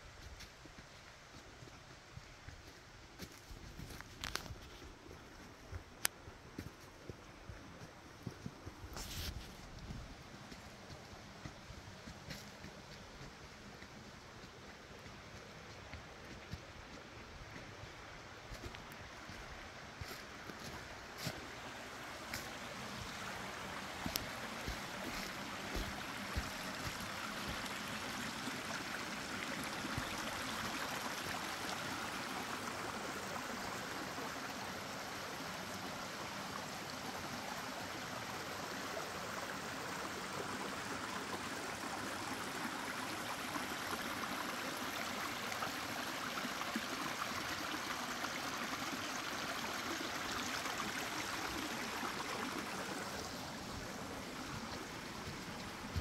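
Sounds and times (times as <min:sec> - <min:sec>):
creek rushing: 0:00.0 - 0:56.0.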